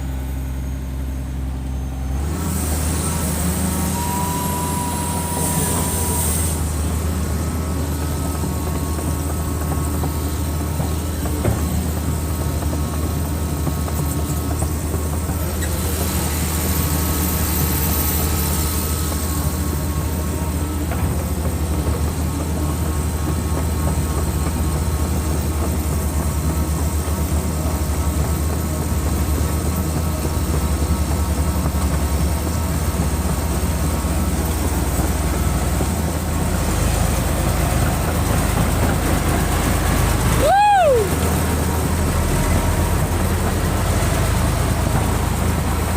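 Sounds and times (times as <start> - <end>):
excavator diesel engine droning: 0.0 - 45.9.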